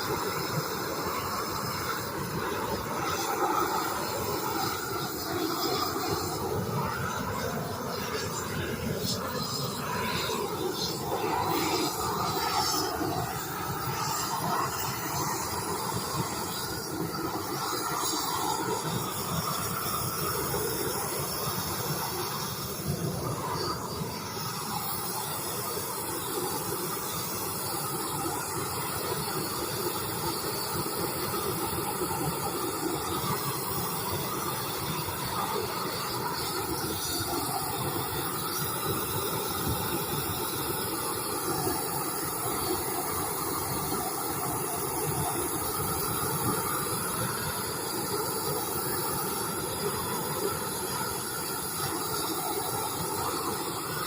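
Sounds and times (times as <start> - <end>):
gas torch hissing: 0.0 - 54.0.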